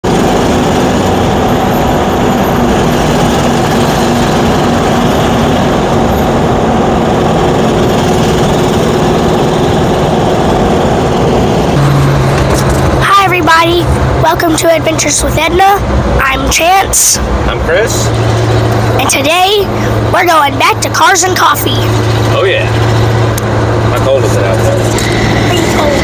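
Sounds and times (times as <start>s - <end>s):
truck engine and road noise: 0.0s - 26.0s.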